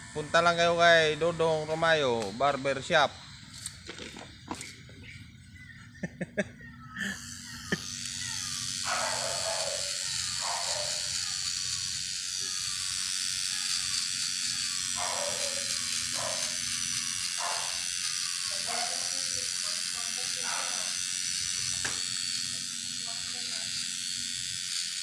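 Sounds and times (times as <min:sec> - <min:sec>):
electric hair clippers running: 0:00.0 - 0:25.0.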